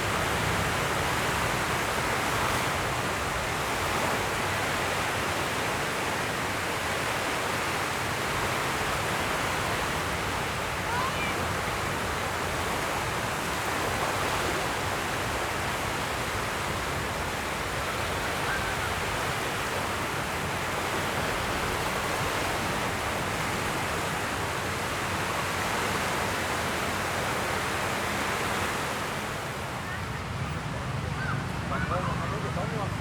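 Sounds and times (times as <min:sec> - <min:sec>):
ocean surf on a beach: 0:00.0 - 0:33.0.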